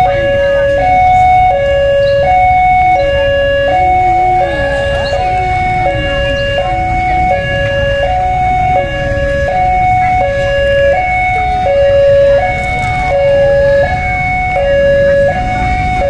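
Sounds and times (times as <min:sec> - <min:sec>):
level crossing two-tone alarm: 0:00.0 - 0:16.0
low train rumble: 0:00.0 - 0:16.0.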